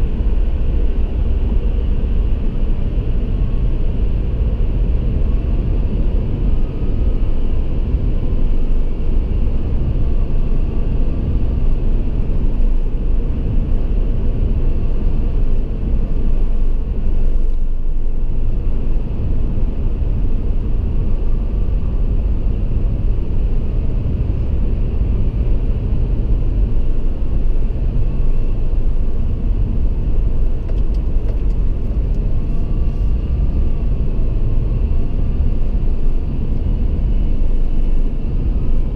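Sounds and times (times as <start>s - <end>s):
tyre and engine rumble in tunnel: 0.0s - 38.9s.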